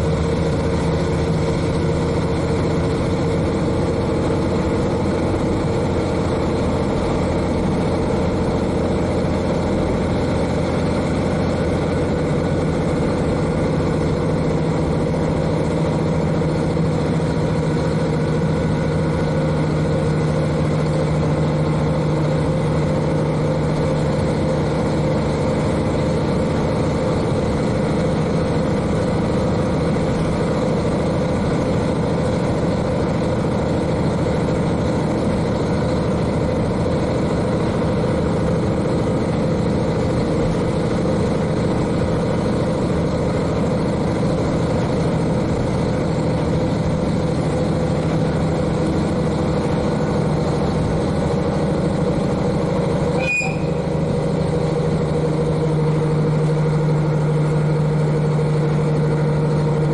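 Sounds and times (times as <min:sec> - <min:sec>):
railcar diesel engine running: 0:00.0 - 0:59.9
train running noise: 0:00.0 - 0:59.9.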